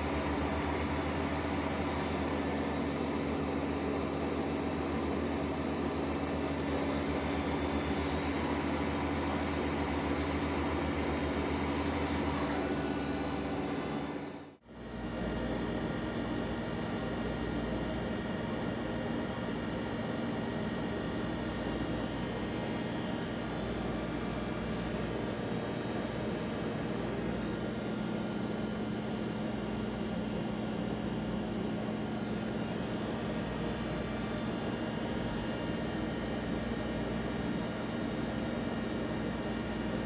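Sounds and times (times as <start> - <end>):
lathe humming and whirring: 0.0 - 40.0.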